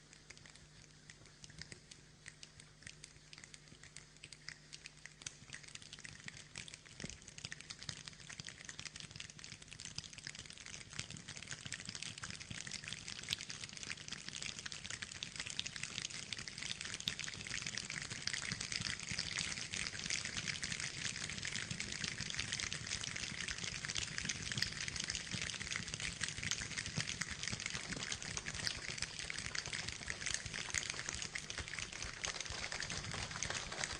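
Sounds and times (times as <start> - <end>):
faint low hum: 0.0 - 33.9
rain pattering: 0.0 - 33.9.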